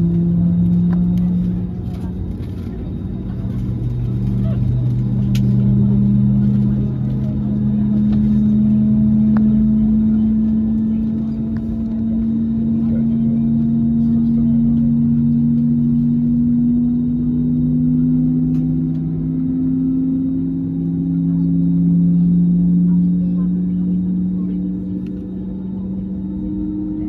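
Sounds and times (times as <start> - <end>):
jet engines humming: 0.0 - 27.0
low rumble: 0.0 - 27.0.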